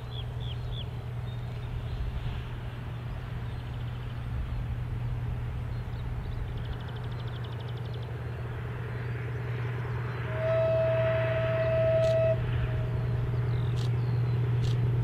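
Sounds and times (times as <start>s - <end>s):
locomotive engine drone: 0.0s - 15.0s.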